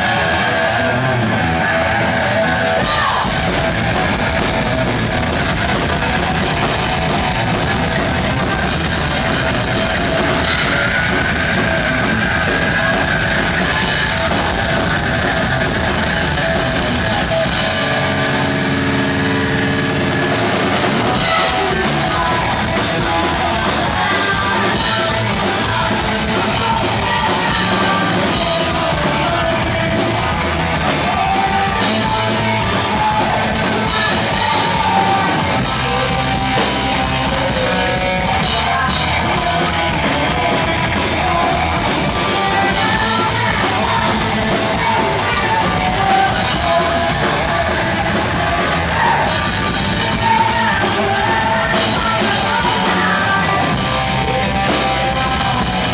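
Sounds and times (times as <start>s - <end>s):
heavy metal band playing: 0.0s - 55.9s
person singing: 1.6s - 5.0s, 5.8s - 19.3s, 20.0s - 55.9s.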